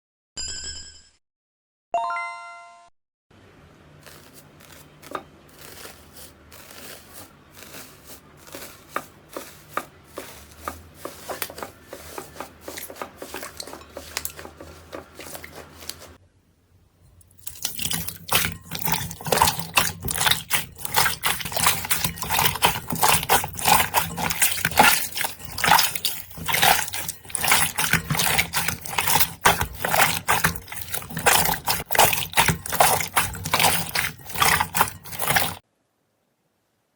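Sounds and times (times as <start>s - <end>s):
slime crackling: 4.0s - 16.2s, 17.3s - 35.6s
slime squelching: 4.0s - 16.2s, 17.2s - 35.6s.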